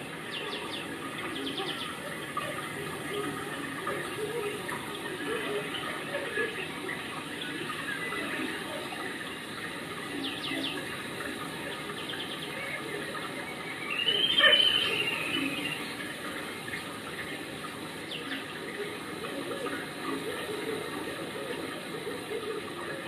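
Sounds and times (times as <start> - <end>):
rushing water noise: 0.0 - 23.0.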